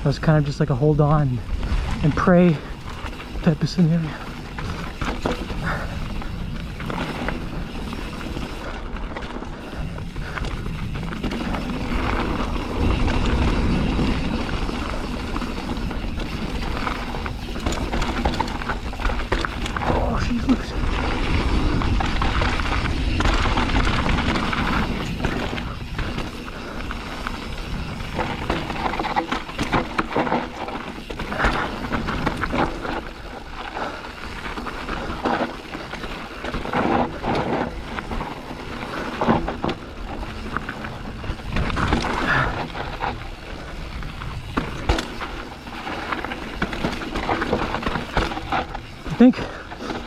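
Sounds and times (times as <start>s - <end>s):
bike tyres on loose dirt: 0.0s - 50.0s
bike knocks and rattles: 1.8s - 50.0s.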